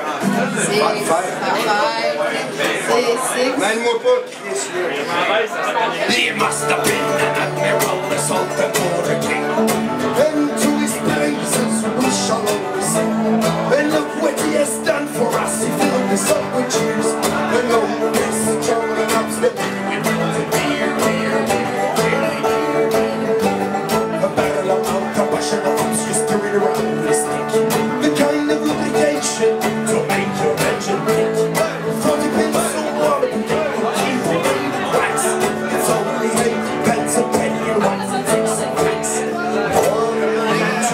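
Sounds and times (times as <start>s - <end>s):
folk band playing guitars: 0.0s - 40.9s.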